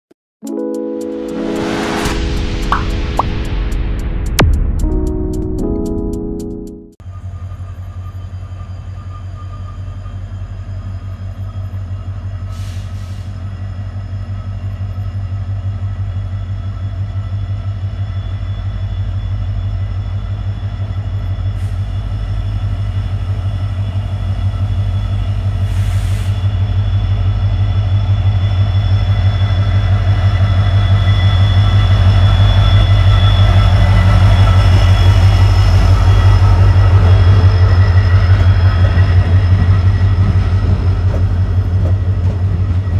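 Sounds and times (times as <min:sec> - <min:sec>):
diesel locomotive engine drone: 0:07.0 - 0:42.9
train coaches rolling past: 0:07.0 - 0:42.9.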